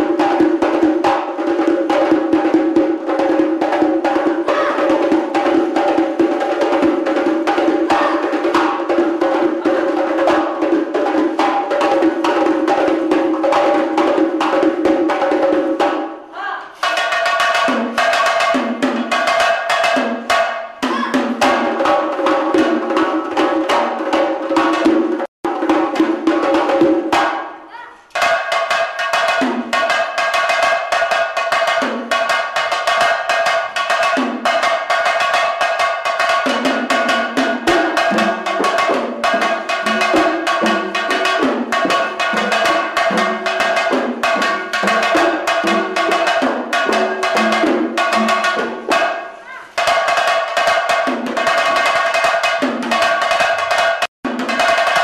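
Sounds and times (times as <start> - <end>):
frame drums playing fast rhythm: 0.0 - 16.2, 16.8 - 27.5, 28.2 - 55.0.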